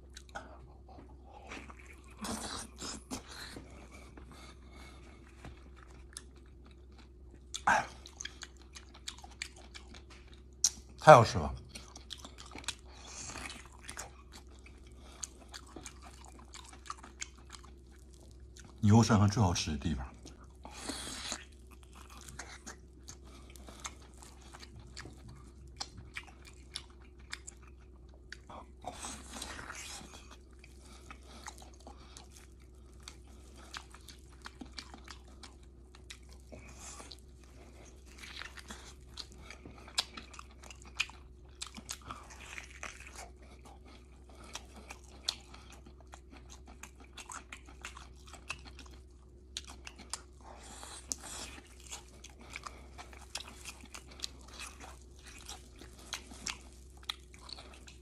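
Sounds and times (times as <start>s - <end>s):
close chewing with wet mouth clicks: 0.0s - 11.0s, 11.6s - 18.8s, 20.1s - 58.0s.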